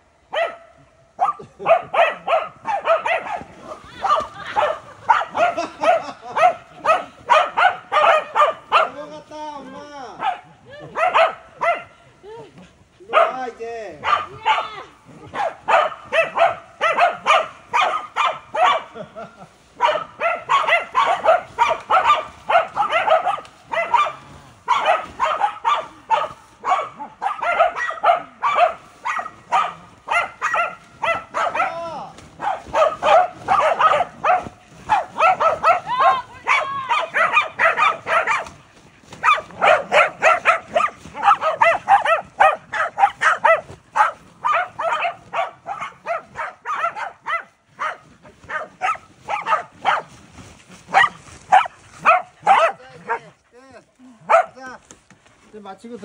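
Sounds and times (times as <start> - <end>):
dogs barking: 0.3 - 9.1, 10.2 - 12.0, 13.0 - 19.2, 19.8 - 53.4, 54.2 - 54.7.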